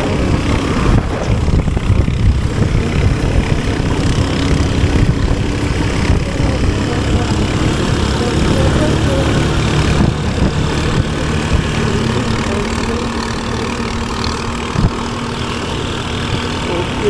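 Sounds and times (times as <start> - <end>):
motorcycle engine running: 0.0 - 17.0
wind buffeting on microphone: 0.0 - 17.0.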